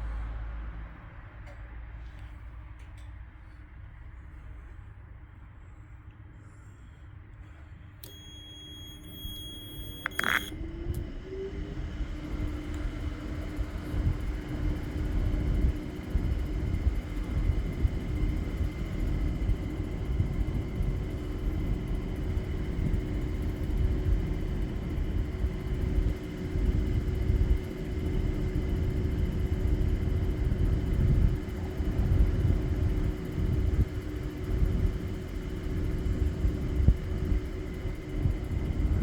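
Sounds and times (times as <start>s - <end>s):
air conditioner compressor humming: 4.3s - 39.0s.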